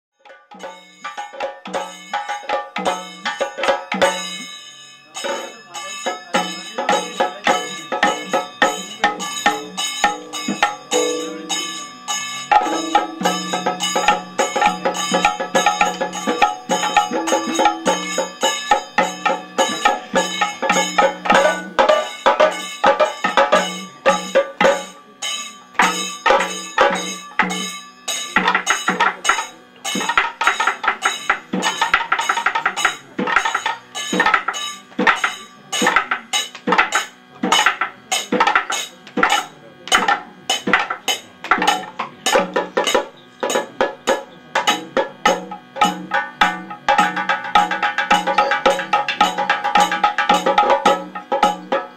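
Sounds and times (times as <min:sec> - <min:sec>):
ringing metallic strikes: 0:00.2 - 0:51.9
rapid drum strokes: 0:05.2 - 0:51.9.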